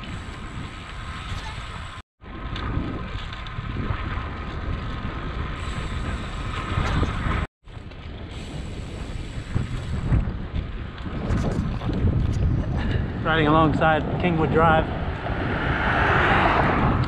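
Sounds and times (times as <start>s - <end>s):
bicycle rumbling over concrete: 0.0s - 17.0s
wind buffeting microphone: 0.0s - 17.0s.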